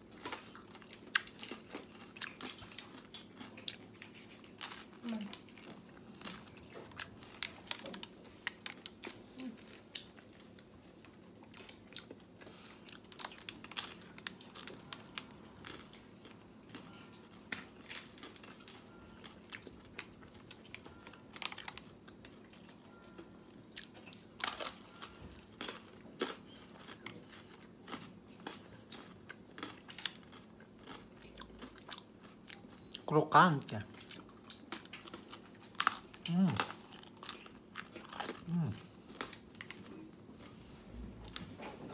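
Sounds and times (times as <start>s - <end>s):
crunchy chewing: 0.0s - 33.1s, 33.9s - 40.6s.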